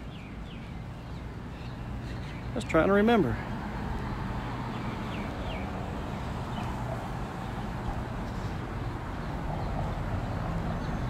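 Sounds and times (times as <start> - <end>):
steady low street rumble: 0.0 - 11.0.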